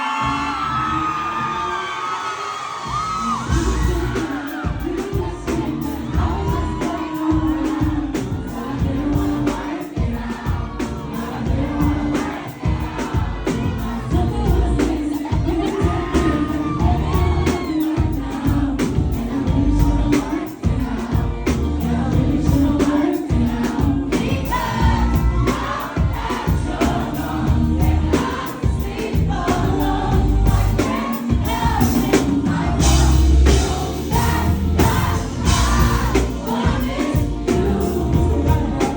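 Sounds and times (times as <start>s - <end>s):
pop backing track: 0.0s - 38.9s
person singing: 2.8s - 38.9s
steady drum beat: 2.9s - 38.9s.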